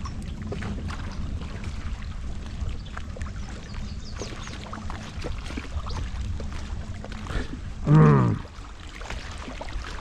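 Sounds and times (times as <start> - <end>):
water lapping and splashing: 0.0 - 10.0.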